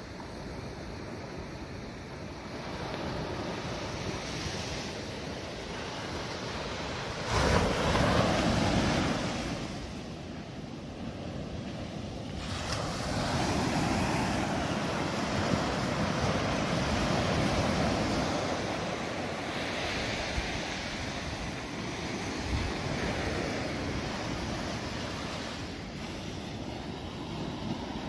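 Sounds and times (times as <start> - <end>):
ocean surf breaking on beach: 0.0 - 28.0.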